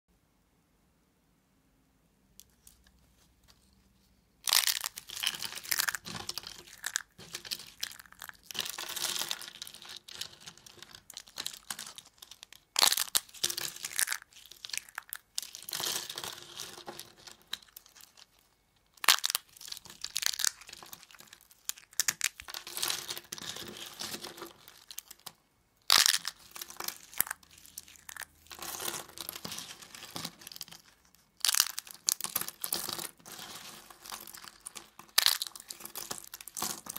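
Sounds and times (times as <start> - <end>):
soap crackling and crunching: 4.4 - 36.9.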